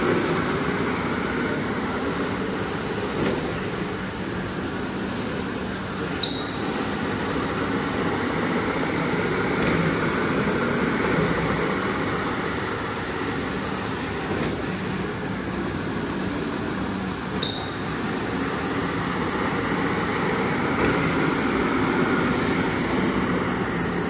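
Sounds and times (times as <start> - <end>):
cleaning machine motor hum: 0.0 - 24.0.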